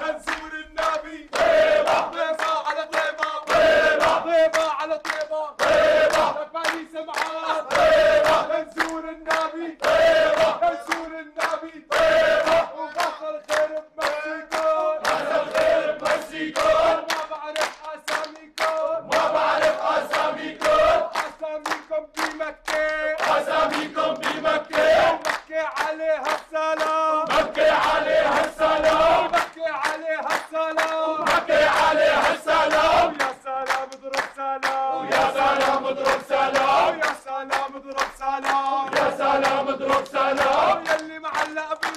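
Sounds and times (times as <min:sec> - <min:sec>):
men chanting in unison: 0:00.0 - 0:41.9
rhythmic hand clapping: 0:00.0 - 0:41.9.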